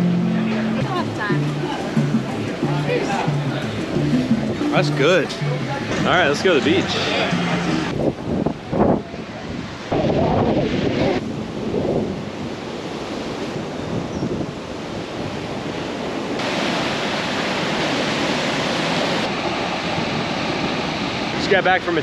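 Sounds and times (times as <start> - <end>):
ocean surf washing onto beach: 0.0 - 22.0.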